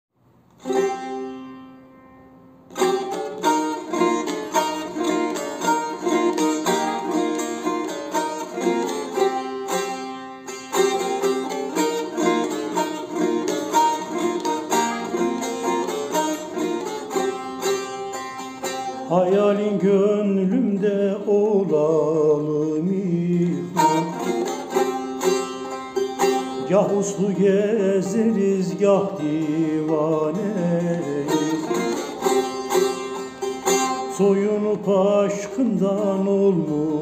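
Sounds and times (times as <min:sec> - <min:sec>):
plucked long-necked lute: 0:00.5 - 0:37.0.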